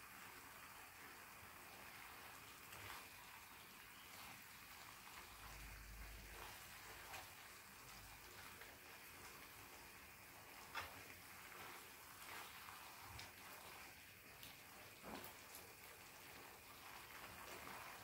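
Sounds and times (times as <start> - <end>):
sauce sizzling in a pot: 0.0 - 18.0.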